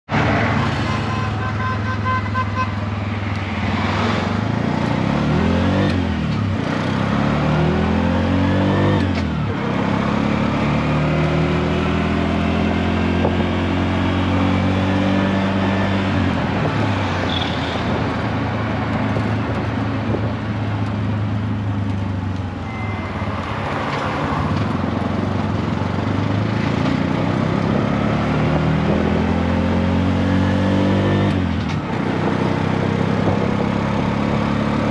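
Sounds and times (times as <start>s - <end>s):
auto rickshaw engine: 0.1s - 34.9s
road and wind rush: 0.1s - 34.9s.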